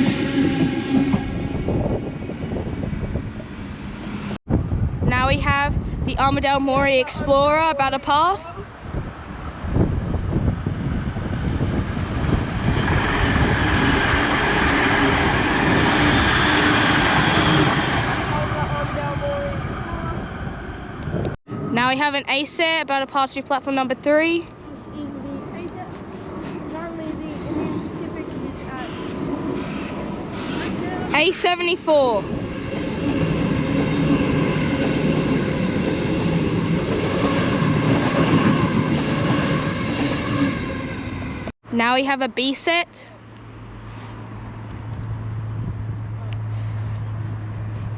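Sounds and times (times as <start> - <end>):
wheels rumbling on rails: 0.0 - 5.2, 6.2 - 21.8, 24.6 - 41.5, 43.4 - 47.9
diesel railcar passing: 0.0 - 5.6, 6.3 - 47.9.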